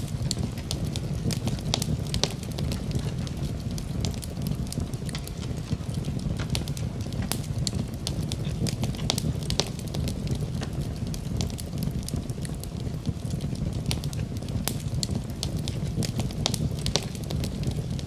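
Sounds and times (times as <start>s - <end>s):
burning wood popping and snapping: 0.0s - 18.0s
fire flames rumbling: 0.0s - 18.0s.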